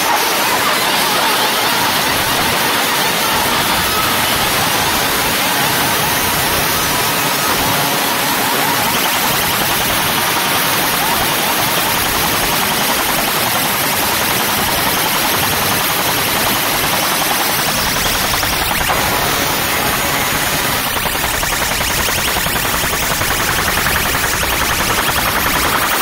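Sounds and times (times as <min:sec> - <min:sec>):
distorted sound system and crowd: 0:00.0 - 0:26.0.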